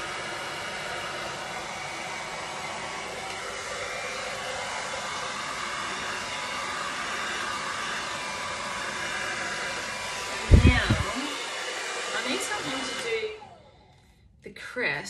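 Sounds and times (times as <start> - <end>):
hairdryer blowing: 0.0 - 14.1.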